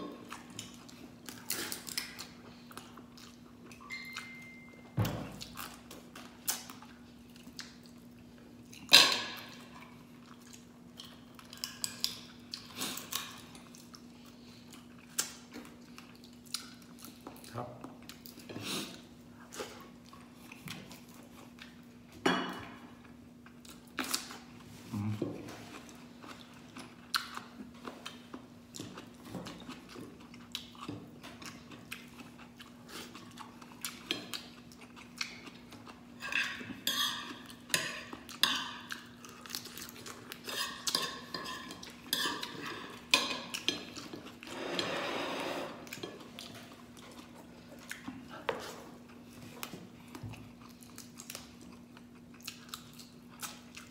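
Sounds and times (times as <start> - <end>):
chewing: 0.2 - 4.4, 5.4 - 8.9, 9.5 - 21.9, 22.8 - 44.5, 45.8 - 53.9.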